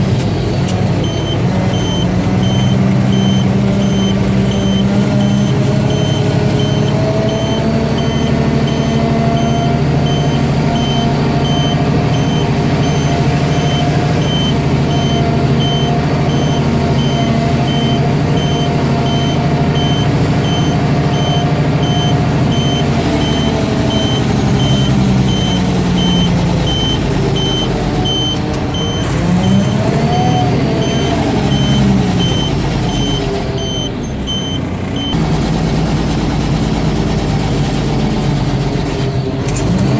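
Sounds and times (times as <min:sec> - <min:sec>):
truck diesel engine running: 0:00.0 - 0:39.9
reverse alarm beeping: 0:01.0 - 0:35.2.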